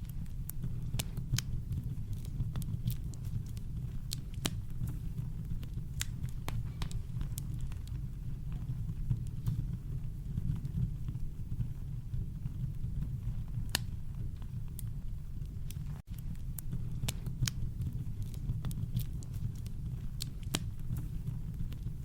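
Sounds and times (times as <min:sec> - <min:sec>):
campfire crackling and popping: 0:00.0 - 0:22.0
deep rumble of brown noise: 0:00.0 - 0:22.0.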